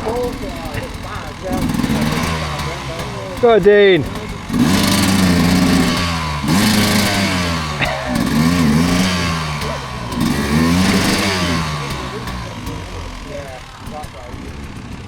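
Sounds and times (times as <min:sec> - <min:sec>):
dirt bike engine revving: 0:00.0 - 0:15.0
low engine drone: 0:00.0 - 0:15.0.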